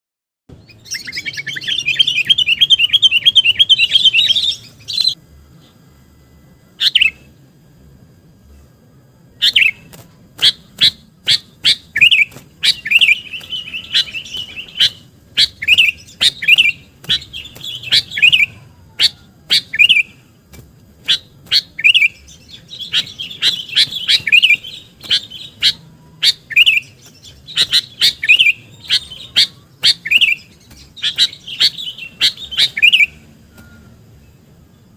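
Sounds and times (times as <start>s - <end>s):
bulbul singing: 0.5s - 7.5s, 8.4s - 34.9s.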